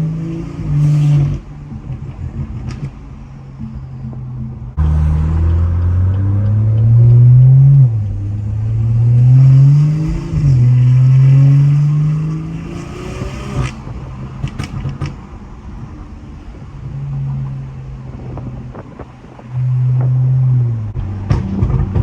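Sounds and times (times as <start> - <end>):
car engine accelerating: 0.0 - 22.0
exhaust pop: 4.1 - 22.0.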